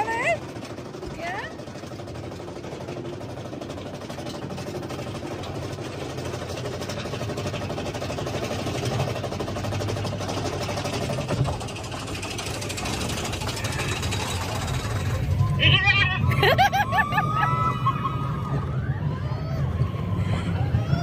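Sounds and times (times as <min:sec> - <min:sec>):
roller coaster rattling on track: 0:00.0 - 0:21.0.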